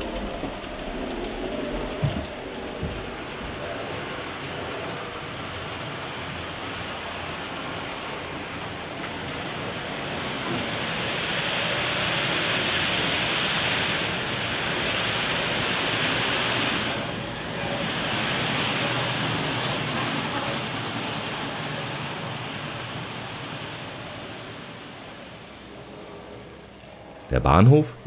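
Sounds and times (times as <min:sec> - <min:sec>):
model train wheels on track: 0:00.0 - 0:27.6.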